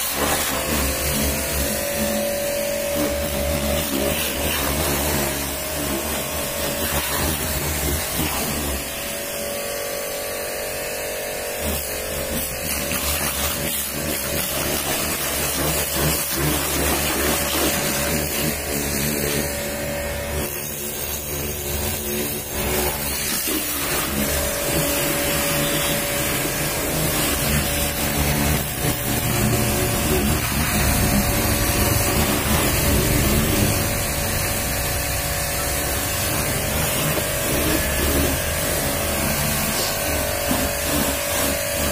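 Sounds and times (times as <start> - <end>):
pressure washer motor humming: 0.0 - 41.9
water jet hissing on metal: 0.0 - 41.9.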